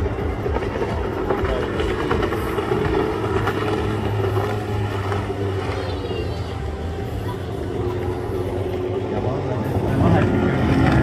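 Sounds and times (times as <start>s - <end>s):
powerboat engines running hard: 0.0s - 11.0s.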